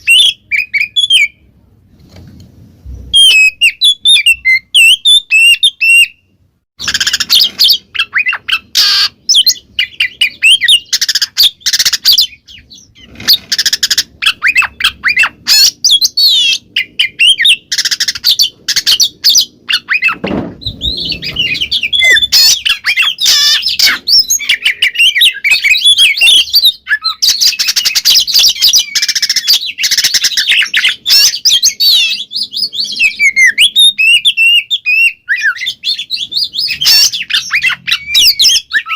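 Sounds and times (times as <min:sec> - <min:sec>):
magpie-robin singing loudly: 0:00.0 - 0:01.4, 0:03.2 - 0:38.9.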